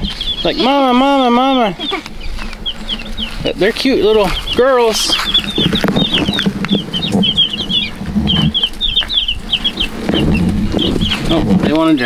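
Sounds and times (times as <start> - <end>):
chicks peeping: 0.0 - 12.0
low rumble: 1.5 - 11.8.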